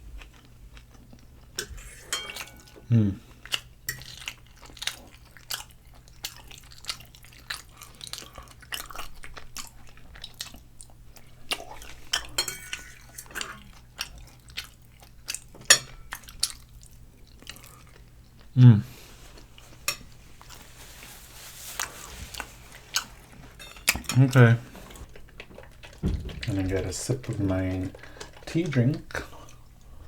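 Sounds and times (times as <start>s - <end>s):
person chewing: 0.2s - 20.7s, 21.8s - 30.0s.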